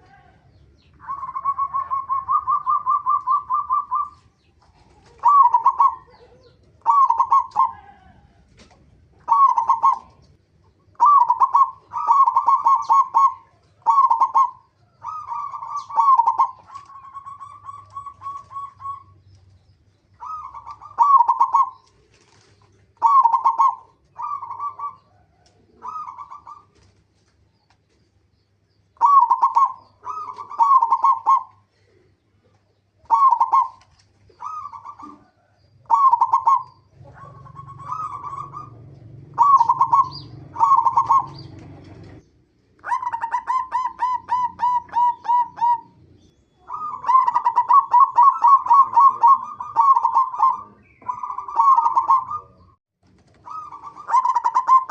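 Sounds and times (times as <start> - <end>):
dove cooing: 0.0 - 19.4, 20.1 - 27.0, 28.9 - 54.9.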